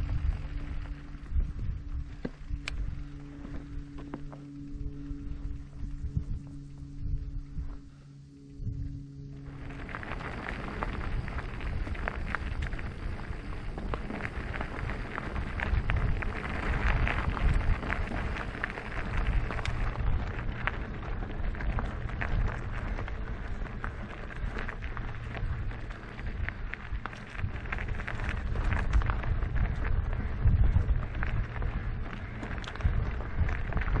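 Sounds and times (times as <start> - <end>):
tyres crackling on rough surface: 0.0 - 8.0, 8.9 - 34.0
wind rumbling on microphone: 0.0 - 34.0.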